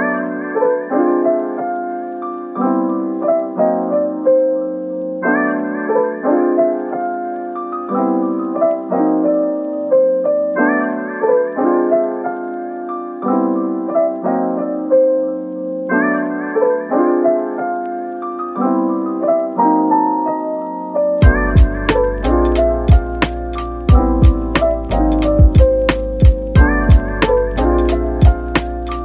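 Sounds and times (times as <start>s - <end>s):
gentle keyboard music: 0.0s - 29.0s.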